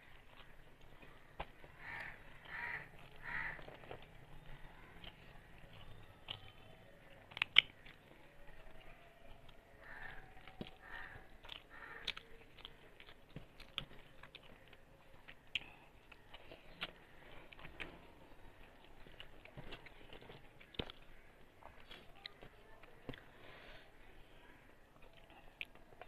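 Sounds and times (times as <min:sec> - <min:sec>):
chewing and lip smacks: 0:00.0 - 0:23.4, 0:24.9 - 0:26.0.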